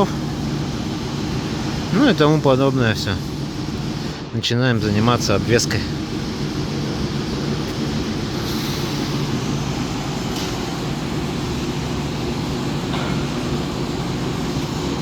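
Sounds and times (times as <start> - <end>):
mechanical drone with hum and hiss: 0.0 - 15.0.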